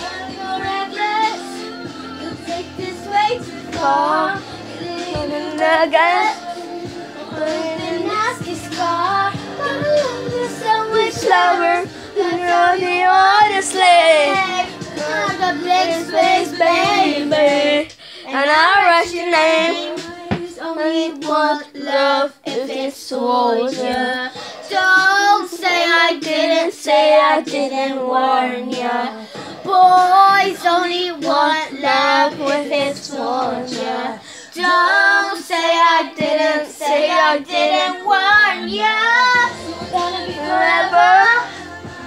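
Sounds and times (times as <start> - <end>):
child singing with vibrato: 0.0 - 42.0.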